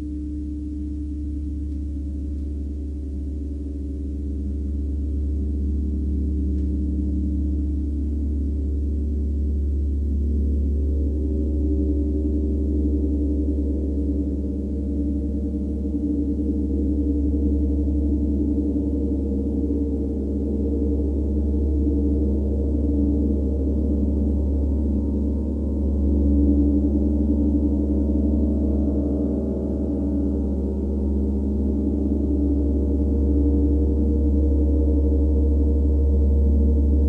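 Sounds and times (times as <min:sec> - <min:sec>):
gong played with soft mallet: 0:00.0 - 0:37.0.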